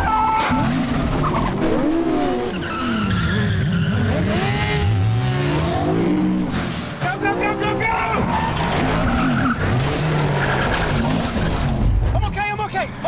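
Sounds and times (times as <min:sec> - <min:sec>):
tyres skidding: 0:00.0 - 0:12.1
motorcycle engines revving: 0:00.6 - 0:11.8
car engine revving: 0:00.6 - 0:11.9.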